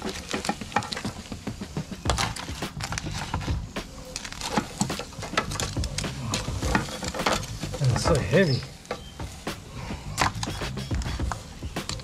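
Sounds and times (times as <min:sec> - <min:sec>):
crab shells clicking and knocking: 0:00.0 - 0:12.0
crackling: 0:00.0 - 0:12.0.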